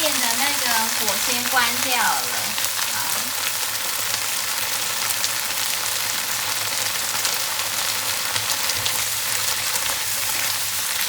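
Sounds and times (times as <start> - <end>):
shrimp and vegetables sizzling: 0.0 - 11.0.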